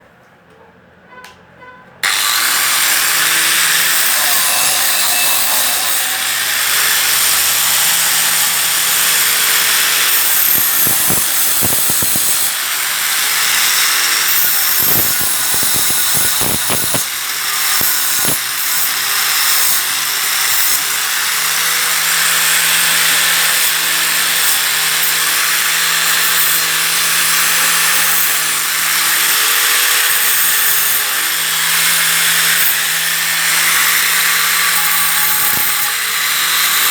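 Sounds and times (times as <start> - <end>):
angle grinder grinding: 2.0 - 36.9.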